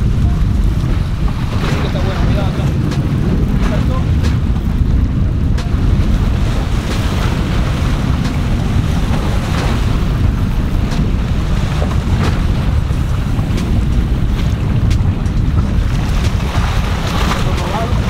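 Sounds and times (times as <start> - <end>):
waves washing against rocks: 0.0 - 18.0
wind buffeting microphone: 0.0 - 18.0.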